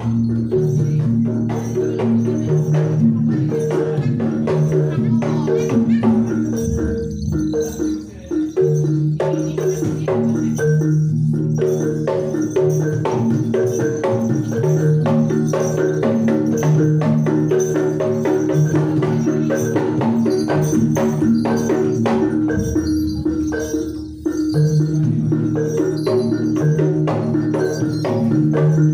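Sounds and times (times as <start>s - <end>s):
gamelan music: 0.0s - 28.9s.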